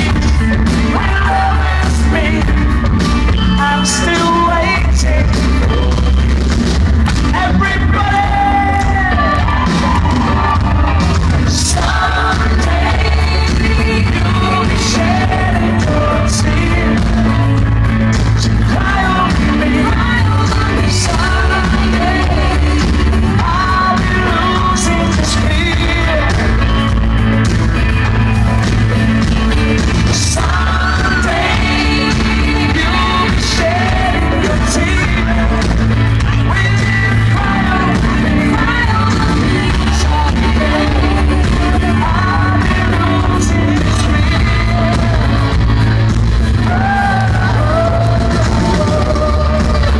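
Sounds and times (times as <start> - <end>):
bass guitar: 0.0 - 49.9
drums: 0.0 - 49.9
electric guitar: 0.0 - 49.9
man singing lead vocal: 0.0 - 49.9.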